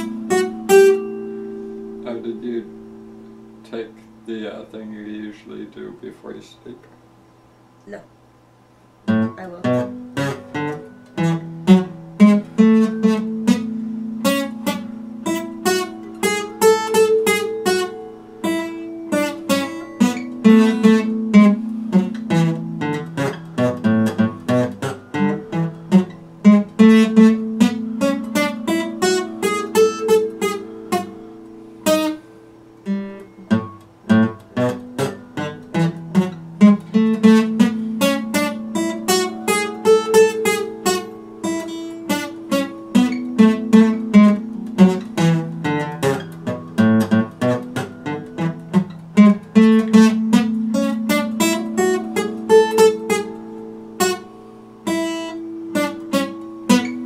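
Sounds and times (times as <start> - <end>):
acoustic guitar plucked: 0.0 - 7.1, 9.0 - 57.0.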